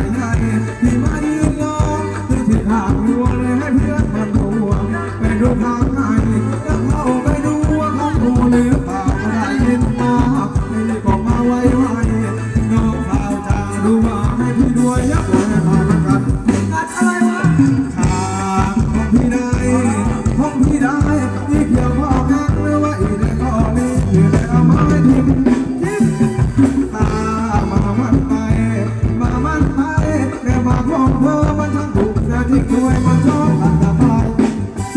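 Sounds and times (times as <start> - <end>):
live band dance music: 0.0 - 34.9
person singing: 0.0 - 34.9.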